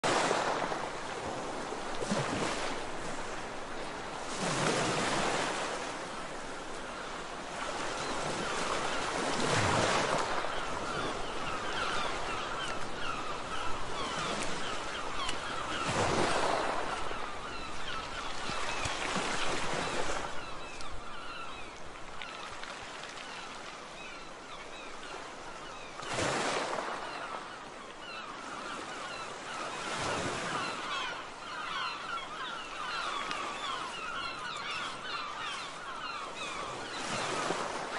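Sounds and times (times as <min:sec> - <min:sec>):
sea waves breaking: 0:00.0 - 0:37.9
faint seagull calls: 0:06.9 - 0:37.9.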